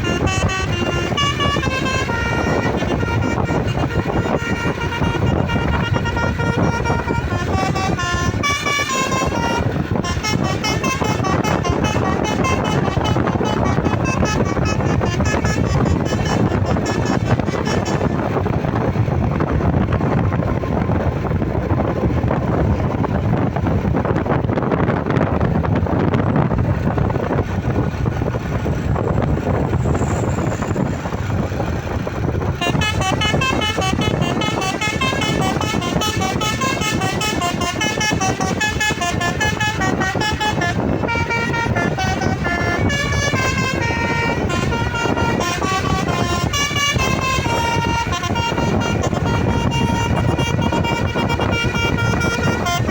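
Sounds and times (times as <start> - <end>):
bus musical horn playing a tune: 0.0 - 52.9
rumble of road vehicles: 0.0 - 52.9.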